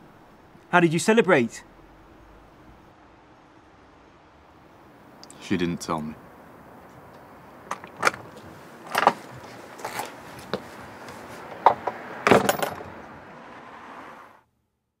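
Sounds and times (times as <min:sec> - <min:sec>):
low steady hiss: 0:00.0 - 0:14.4.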